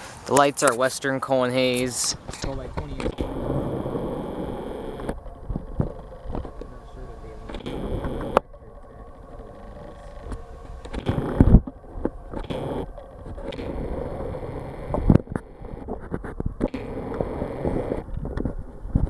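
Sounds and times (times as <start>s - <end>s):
low background rumble: 2.4s - 19.0s.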